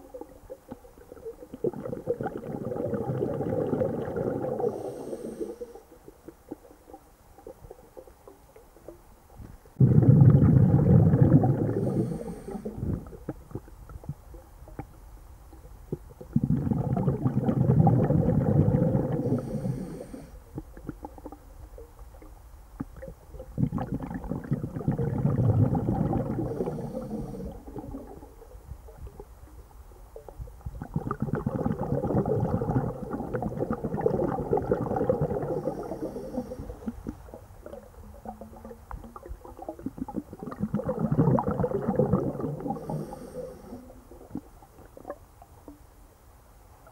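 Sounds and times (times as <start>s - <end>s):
underwater exhaled bubbles gurgling: 0.0s - 45.8s.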